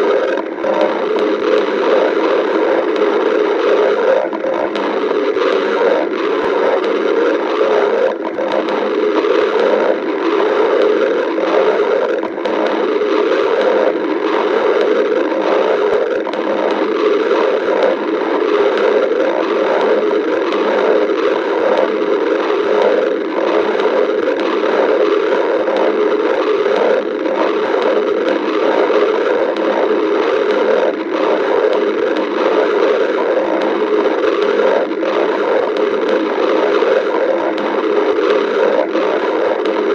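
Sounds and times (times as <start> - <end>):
stomach growling rumble: 0.0 - 39.9.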